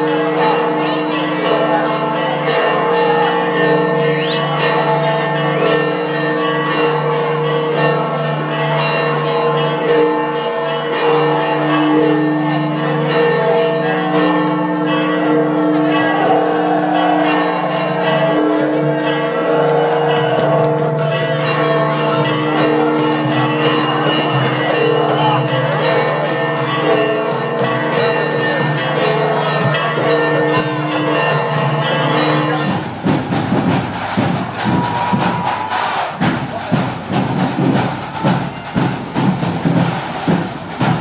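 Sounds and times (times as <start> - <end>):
church bells ringing: 0.0 - 41.0.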